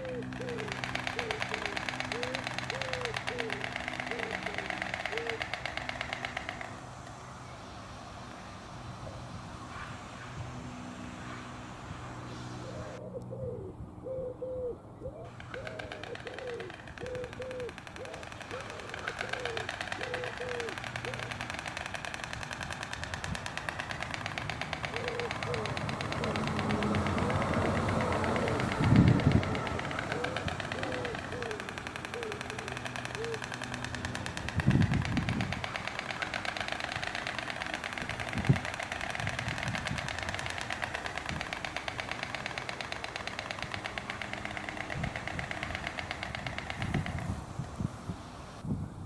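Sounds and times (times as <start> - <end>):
stork bill clattering: 0.0 - 7.2, 15.2 - 47.8.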